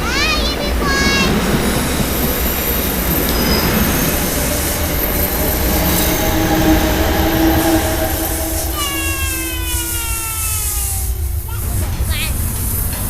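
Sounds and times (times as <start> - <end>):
train wheels rumbling on rails: 0.0 - 13.0
wheels and brakes squealing: 1.0 - 13.0.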